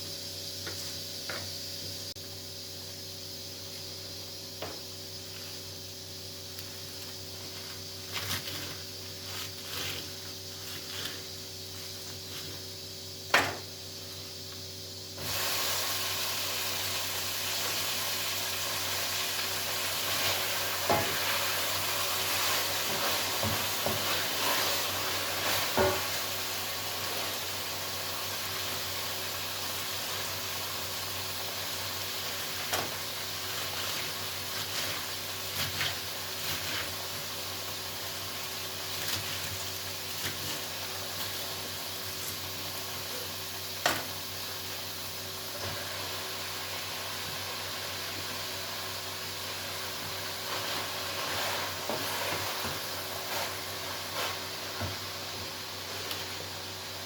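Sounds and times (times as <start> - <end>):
food sizzling in hot pan: 0.0 - 57.0.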